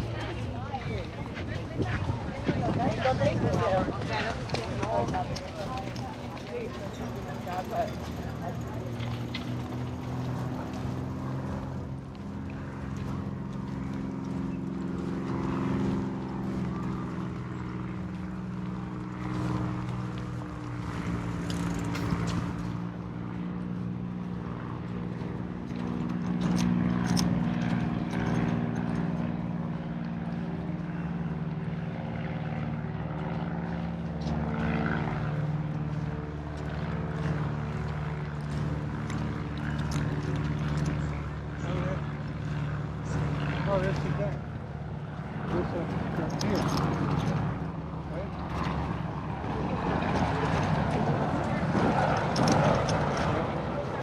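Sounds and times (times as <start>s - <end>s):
motor engine droning: 0.0s - 54.0s.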